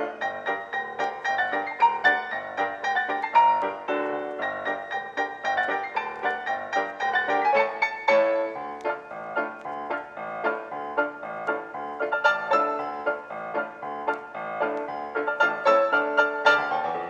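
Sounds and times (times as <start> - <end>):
solo piano playing: 0.0 - 17.0.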